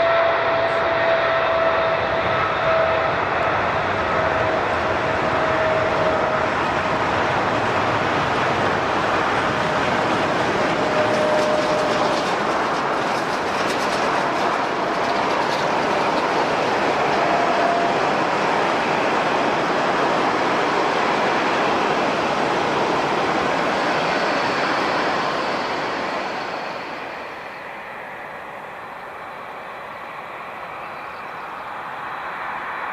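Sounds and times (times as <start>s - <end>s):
jet engines running with whine: 0.0s - 32.9s.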